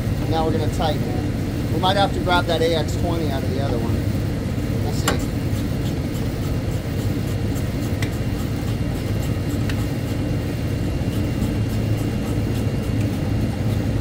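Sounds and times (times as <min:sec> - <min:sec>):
exhaust fan rumbling: 0:00.0 - 0:14.0.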